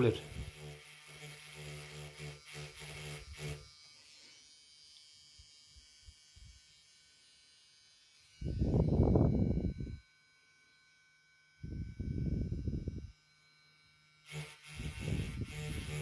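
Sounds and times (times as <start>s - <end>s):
small grinding motor buzzing: 0.0s - 16.0s.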